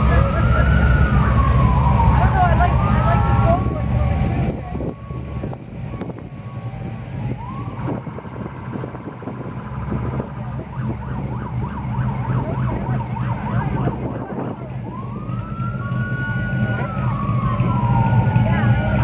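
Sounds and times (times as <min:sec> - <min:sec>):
car engines rumbling: 0:00.0 - 0:19.0
emergency vehicle siren: 0:00.0 - 0:19.0.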